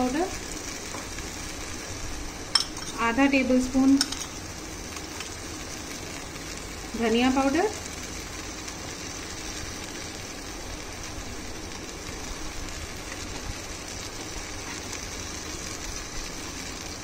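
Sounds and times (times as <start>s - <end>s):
masala sizzling in a pan: 0.0s - 17.0s.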